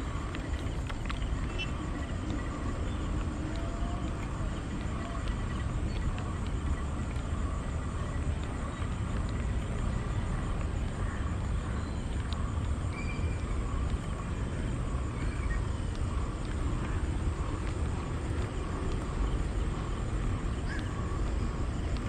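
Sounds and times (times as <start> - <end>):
distant road traffic rumble: 0.0 - 22.0.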